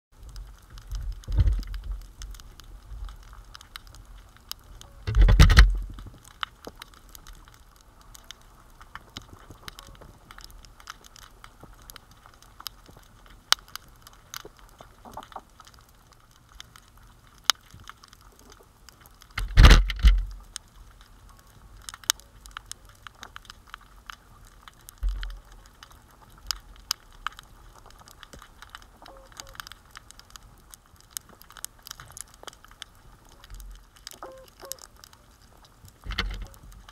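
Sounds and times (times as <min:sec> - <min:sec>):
underwater crackle of clicks: 0:00.2 - 0:36.9.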